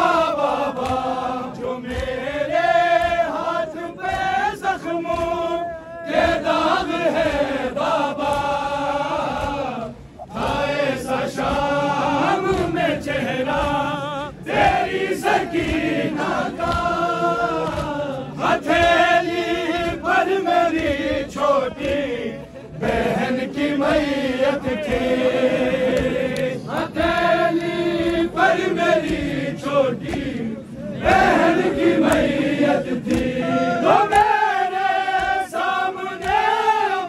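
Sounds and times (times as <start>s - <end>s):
men chanting a lament: 0.0s - 37.0s.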